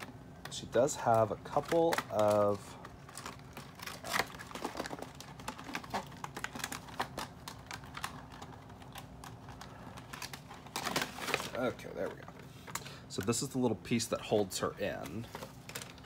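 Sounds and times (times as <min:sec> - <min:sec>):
plastic packaging crackling: 0:00.0 - 0:13.4, 0:14.8 - 0:16.0.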